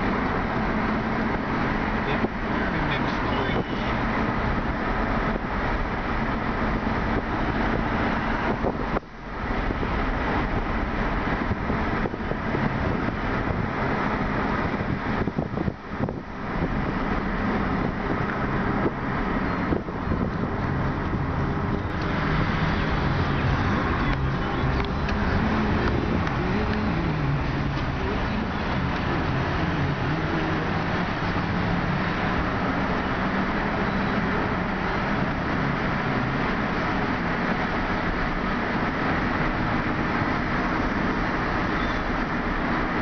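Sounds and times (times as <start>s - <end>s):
low engine hum: 0.0s - 43.0s
tyre and wind noise: 4.3s - 43.0s.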